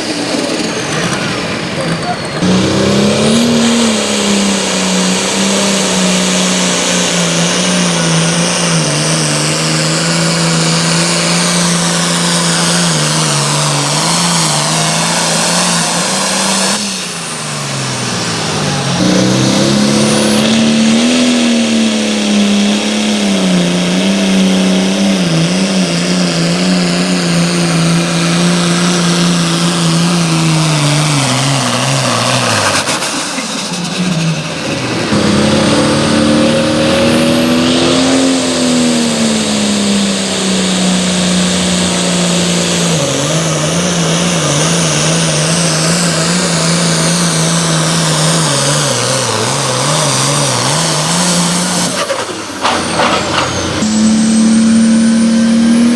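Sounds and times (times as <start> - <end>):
pulling vehicle engine at full throttle: 0.0 - 55.9.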